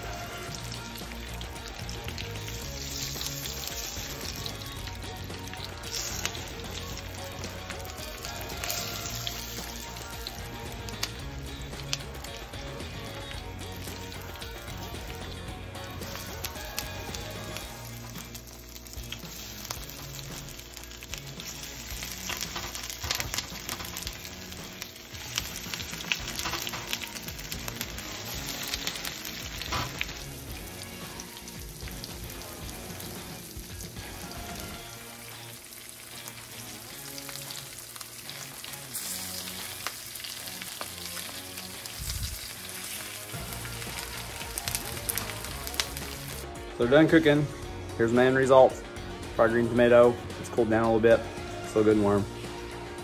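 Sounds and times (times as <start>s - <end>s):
tomato slices frying in oil: 0.0s - 47.2s.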